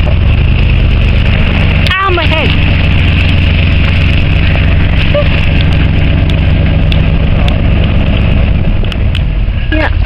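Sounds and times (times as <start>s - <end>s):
rushing noise: 0.0s - 10.0s
vehicle engine humming: 0.0s - 10.0s.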